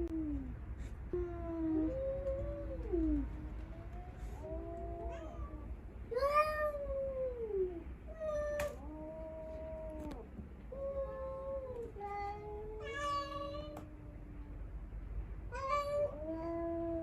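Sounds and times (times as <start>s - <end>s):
cats yowling: 1.1s - 14.5s, 15.5s - 17.0s.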